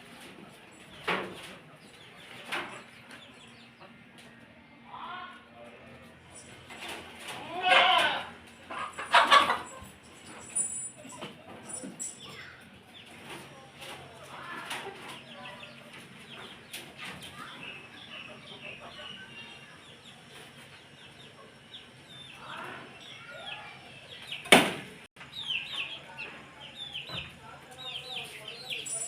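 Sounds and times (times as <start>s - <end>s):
hens clucking: 0.1s - 10.4s, 11.1s - 24.5s
small birds chirping: 0.4s - 6.8s, 8.7s - 29.0s.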